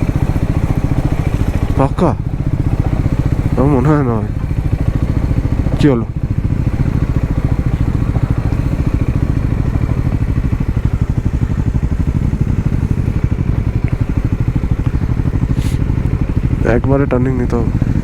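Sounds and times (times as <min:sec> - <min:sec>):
motorcycle engine running at low revs: 0:00.0 - 0:18.0.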